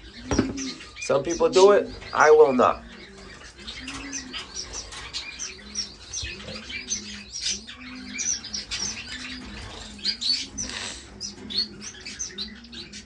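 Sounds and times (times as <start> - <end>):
finches chirping: 0.0 - 13.0.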